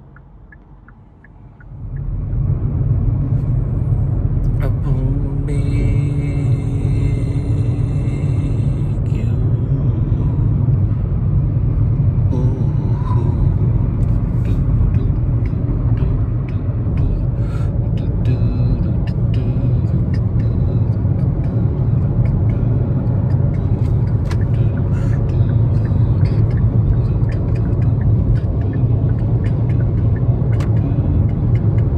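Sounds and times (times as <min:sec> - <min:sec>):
car driving rumble: 0:00.0 - 0:31.9.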